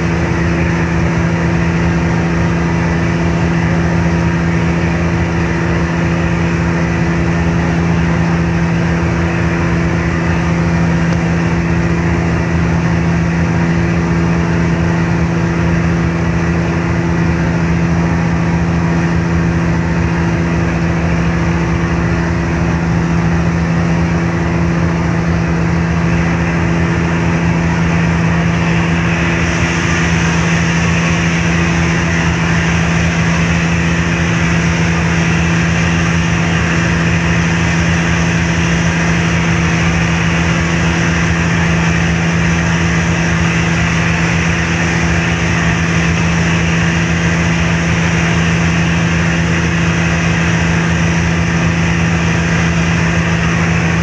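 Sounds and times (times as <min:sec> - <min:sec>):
ship engines humming: 0:00.0 - 0:54.0
steady rushing noise: 0:00.0 - 0:54.0.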